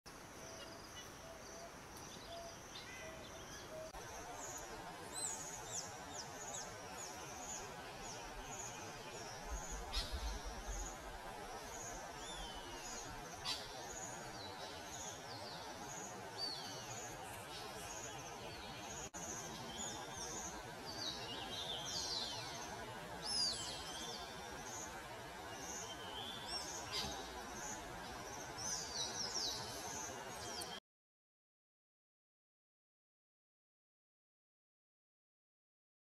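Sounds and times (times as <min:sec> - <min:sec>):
outdoor hiss: 0:00.1 - 0:30.8
birds chirping: 0:00.2 - 0:30.8.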